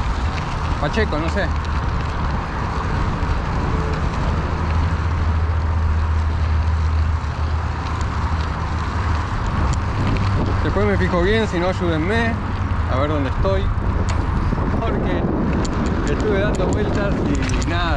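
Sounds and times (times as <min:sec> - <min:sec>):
wind on microphone: 0:00.0 - 0:06.4, 0:07.5 - 0:17.9
bike tyres on gravel: 0:00.0 - 0:17.9.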